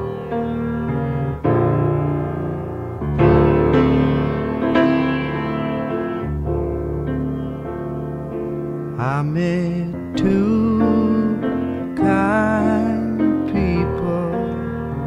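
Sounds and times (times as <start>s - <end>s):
solo piano chords: 0.0s - 15.0s.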